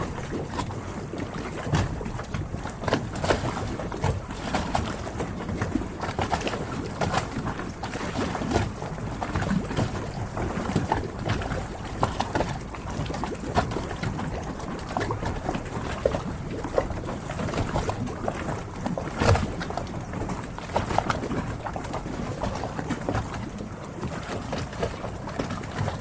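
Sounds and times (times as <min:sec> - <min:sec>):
water lapping against boat hulls: 0:00.0 - 0:26.0.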